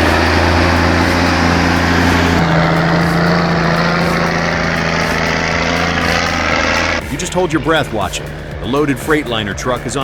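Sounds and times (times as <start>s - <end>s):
diesel truck engine running hard: 0.0s - 10.0s.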